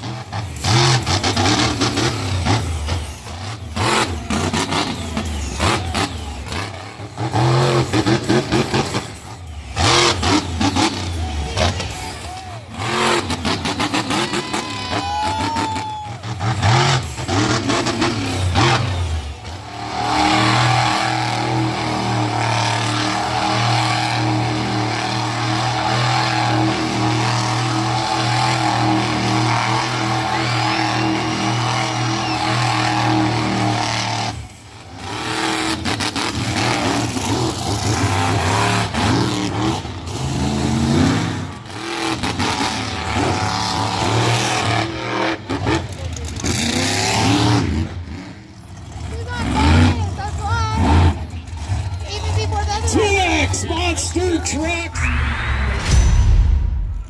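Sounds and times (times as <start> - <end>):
monster truck engine revving: 0.0 - 57.0.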